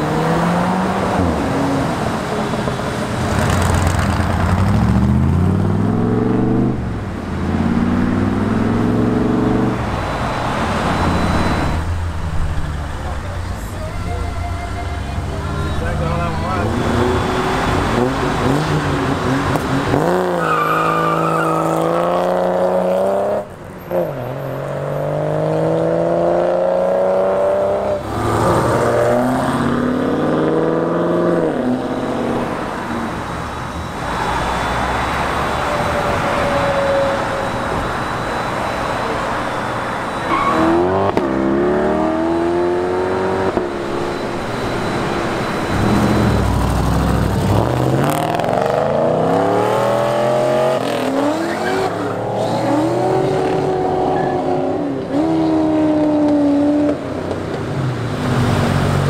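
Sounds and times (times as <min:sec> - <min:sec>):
cars accelerating hard: 0:00.0 - 0:13.3, 0:15.2 - 0:59.0.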